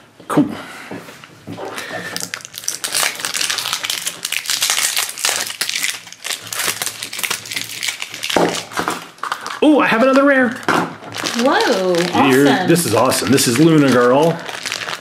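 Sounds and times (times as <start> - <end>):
plastic wrapper crinkling and tearing: 1.7 - 15.0.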